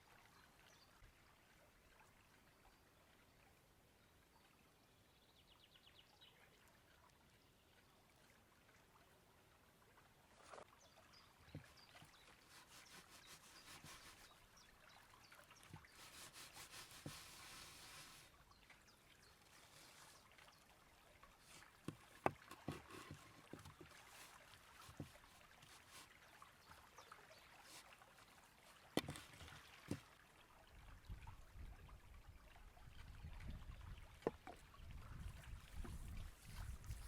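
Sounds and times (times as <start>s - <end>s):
faint flowing river water: 0.0s - 37.0s.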